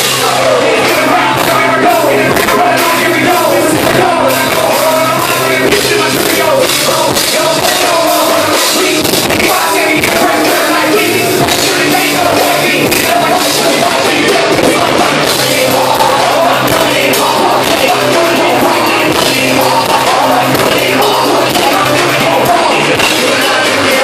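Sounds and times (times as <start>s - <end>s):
drums: 0.0s - 24.0s
electric guitar: 0.0s - 24.0s
person singing into microphones: 0.0s - 24.0s.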